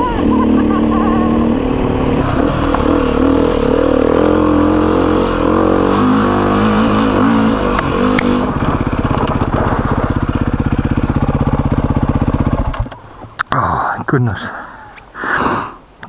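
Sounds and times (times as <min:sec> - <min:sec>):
dirt bike engine revving: 0:00.0 - 0:13.2.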